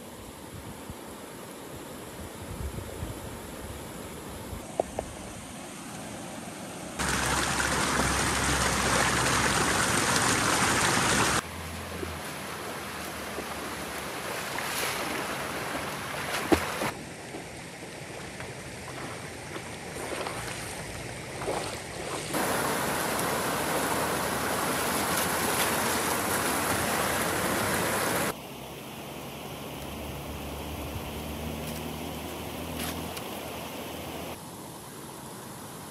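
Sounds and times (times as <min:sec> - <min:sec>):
water rushing and splashing: 0:07.0 - 0:35.9.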